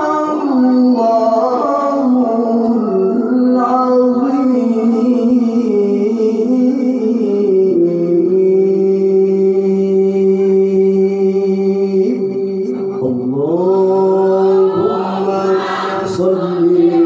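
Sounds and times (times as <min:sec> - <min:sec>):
man chanting melodically into microphone: 0:00.0 - 0:17.0.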